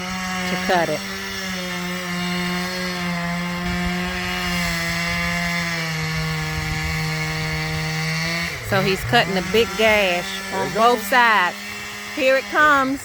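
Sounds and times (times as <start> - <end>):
chainsaw cutting tree: 0.0 - 13.0.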